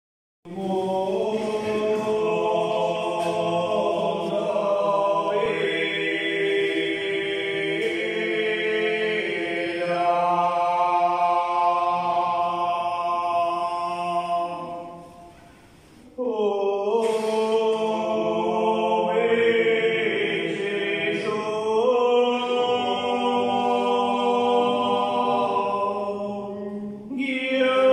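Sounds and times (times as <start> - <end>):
men chanting in unison: 0.5 - 14.8, 16.2 - 27.9.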